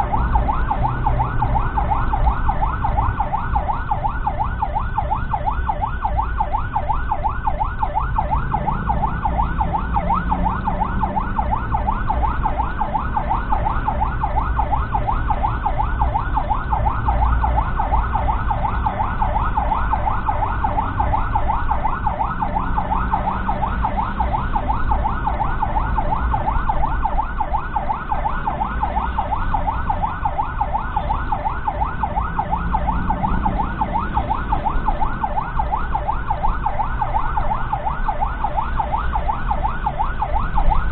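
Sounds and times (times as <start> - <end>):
ambulance siren yelping: 0.0 - 40.9
engine and road rumble: 0.0 - 40.9.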